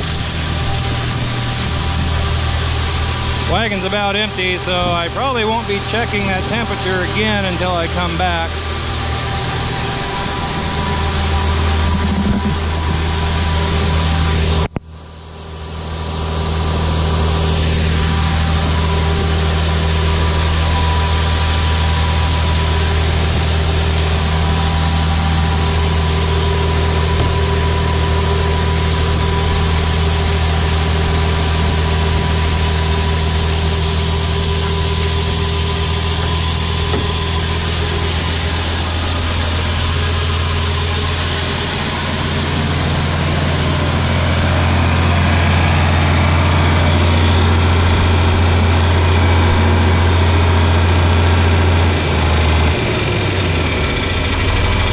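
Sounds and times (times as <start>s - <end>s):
large engine idling: 0.0s - 54.9s.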